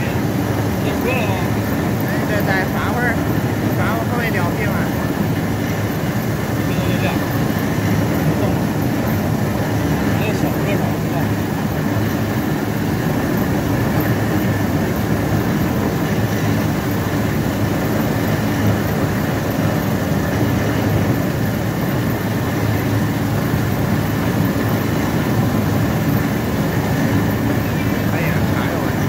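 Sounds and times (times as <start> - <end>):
washing machine motor and rollers: 0.0 - 29.0.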